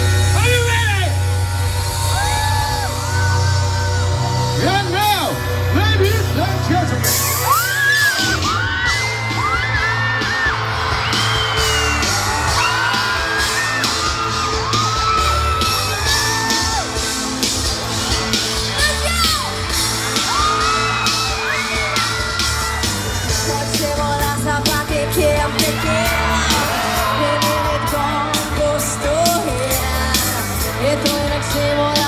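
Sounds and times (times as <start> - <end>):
crowd whooping and yelling: 0.0 - 32.0
loud music with heavy bass: 0.0 - 32.0.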